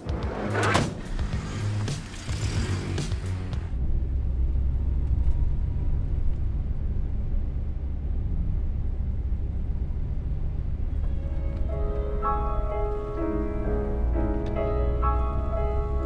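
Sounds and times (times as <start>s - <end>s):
minivan engine and road noise: 0.0s - 16.0s.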